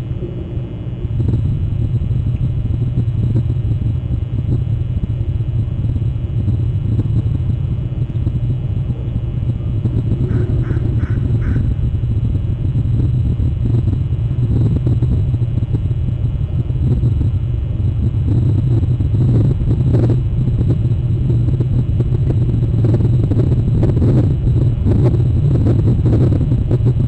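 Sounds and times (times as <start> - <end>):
wind buffeting microphone: 1.0 - 27.0.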